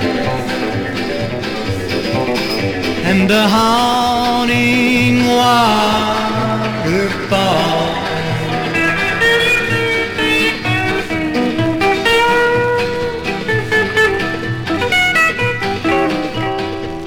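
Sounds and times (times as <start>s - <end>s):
steady bass beat: 0.0s - 16.8s
picked guitar notes: 0.0s - 17.0s.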